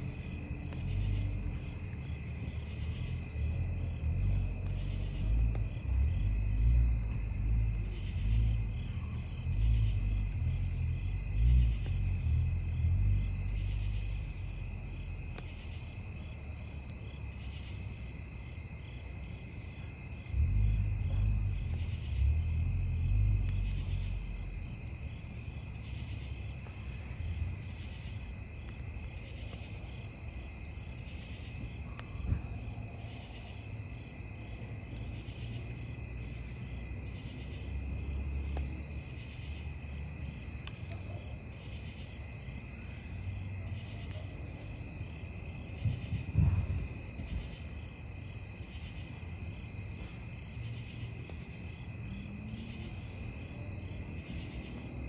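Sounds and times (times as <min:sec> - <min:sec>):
campfire rumble: 0:00.0 - 0:55.0
crickets chirping: 0:00.0 - 0:55.0.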